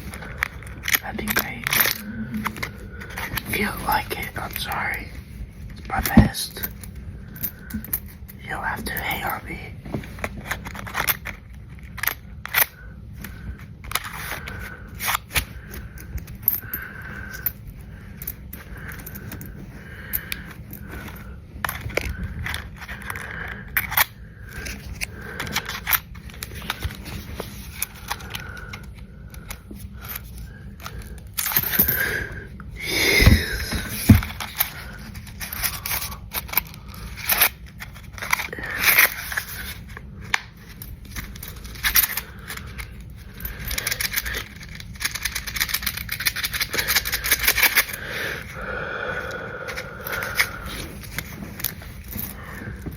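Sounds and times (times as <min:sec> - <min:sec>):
coins clicking and scraping: 0:00.0 - 0:05.0, 0:10.2 - 0:32.2, 0:33.6 - 0:48.4, 0:49.7 - 0:52.9.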